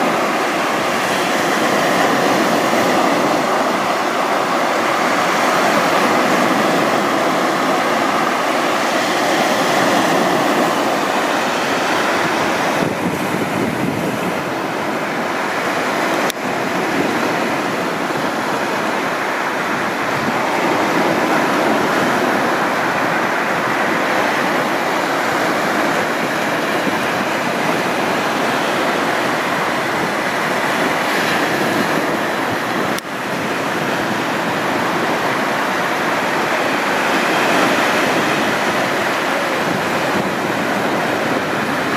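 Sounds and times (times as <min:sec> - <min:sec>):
surf breaking on beach: 0:00.0 - 0:41.9
wind: 0:00.0 - 0:41.9.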